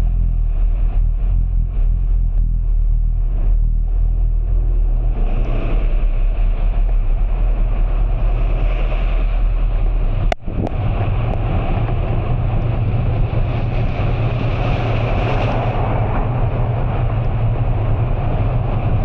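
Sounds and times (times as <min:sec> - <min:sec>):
road noise: 0:00.0 - 0:19.0
vehicle rumbling on the move: 0:00.0 - 0:19.0.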